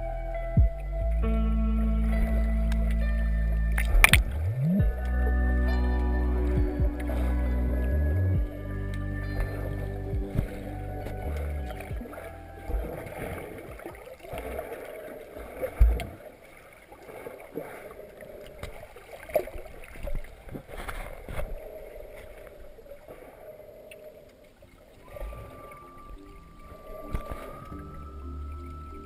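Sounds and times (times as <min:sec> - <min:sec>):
underwater gurgling: 0:00.0 - 0:29.0.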